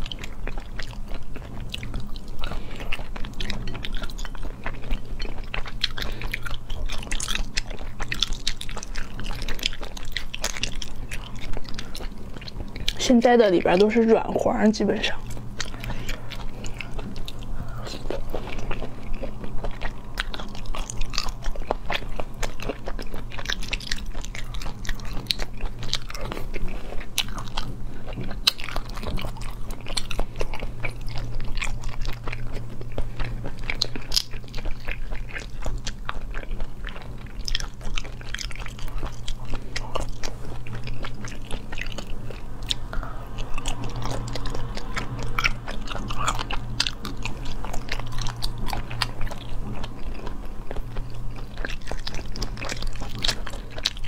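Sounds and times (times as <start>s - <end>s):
chewing and biting: 0.0s - 54.0s
constant low hum: 0.0s - 54.0s.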